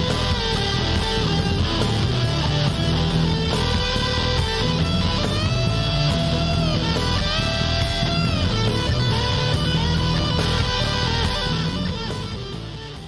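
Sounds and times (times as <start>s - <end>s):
blues-rock guitar music: 0.0s - 13.0s.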